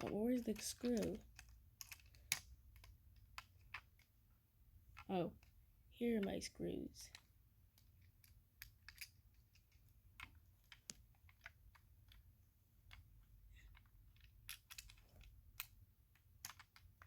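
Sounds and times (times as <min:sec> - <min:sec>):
small metal parts clicking: 0:00.0 - 0:04.1, 0:07.0 - 0:17.0.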